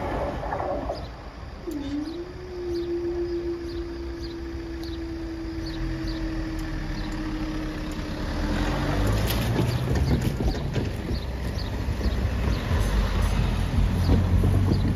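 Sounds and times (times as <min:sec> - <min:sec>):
barrier motor humming: 0:00.0 - 0:14.9
car engine: 0:00.0 - 0:14.9.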